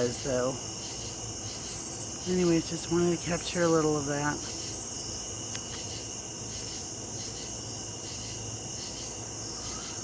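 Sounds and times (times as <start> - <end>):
crickets trilling: 0.0 - 10.0
pulsing insect chorus: 0.0 - 10.0.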